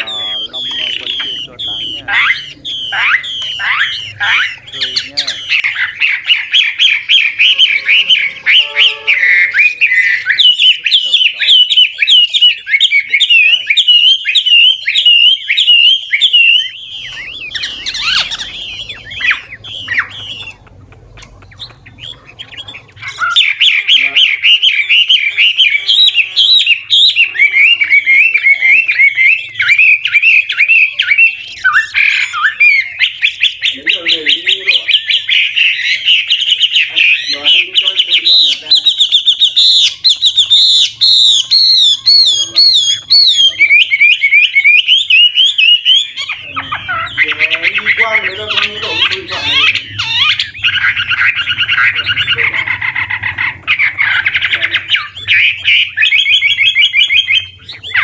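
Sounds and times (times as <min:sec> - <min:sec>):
bird singing whistled phrases: 0:00.0 - 0:58.0.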